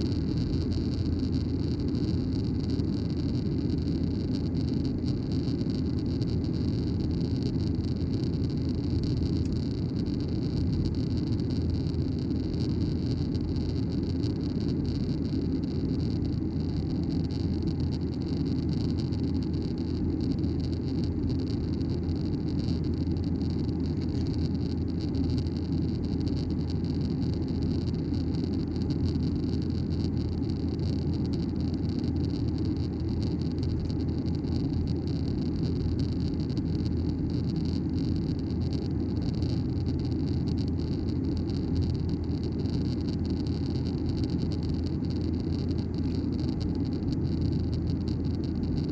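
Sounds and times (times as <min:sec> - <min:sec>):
airplane cabin engine drone: 0:00.0 - 0:48.9.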